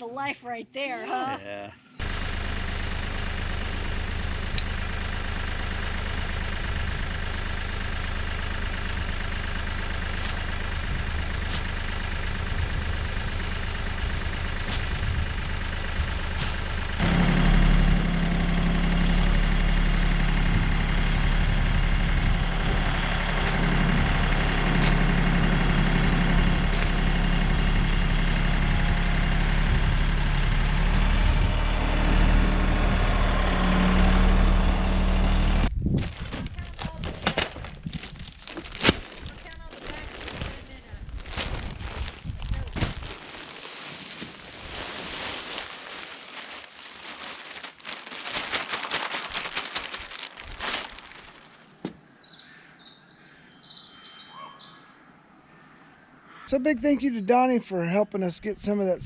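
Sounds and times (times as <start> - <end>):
tractor engine running: 1.8 - 53.1.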